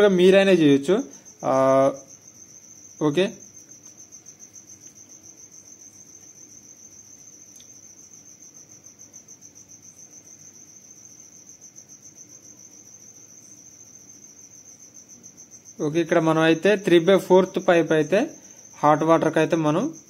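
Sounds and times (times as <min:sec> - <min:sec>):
insect trilling: 0:00.0 - 0:20.0.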